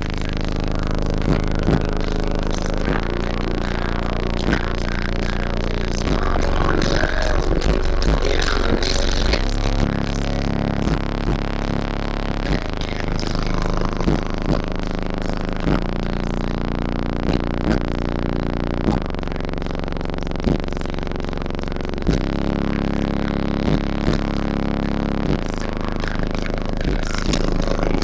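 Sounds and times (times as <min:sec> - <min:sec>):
bass-heavy electronic music: 0:00.0 - 0:28.0.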